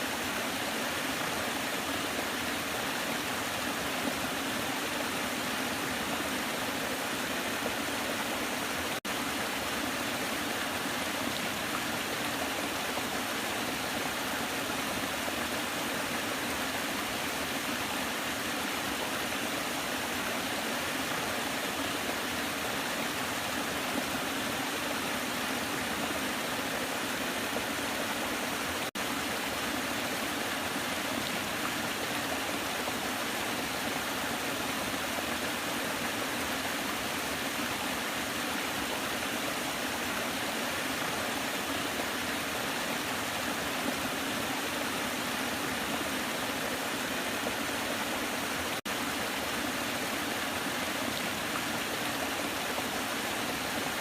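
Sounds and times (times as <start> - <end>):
waterfall pouring and splashing: 0.0 - 54.0.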